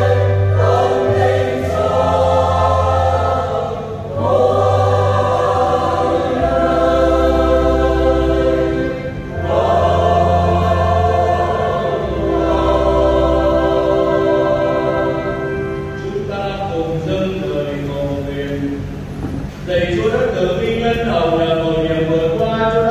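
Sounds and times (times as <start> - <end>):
choir singing a hymn: 0.0 - 18.9
steady low bass: 0.0 - 22.9.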